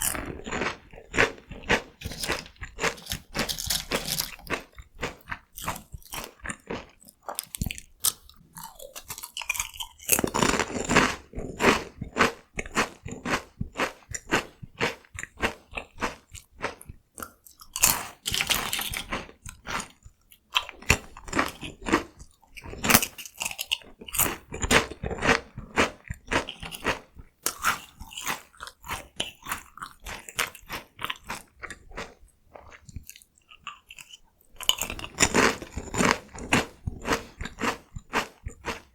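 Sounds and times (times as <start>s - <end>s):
crunchy snacks being chewed: 0.0s - 38.9s.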